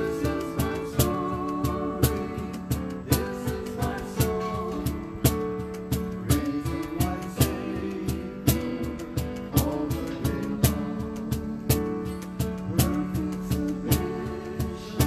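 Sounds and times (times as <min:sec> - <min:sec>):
worship band playing slow song: 0:00.0 - 0:15.0.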